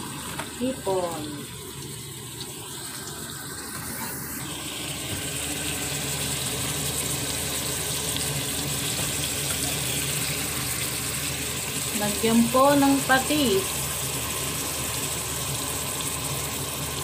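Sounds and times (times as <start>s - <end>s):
shrimp sizzling in a pot: 0.0s - 17.0s.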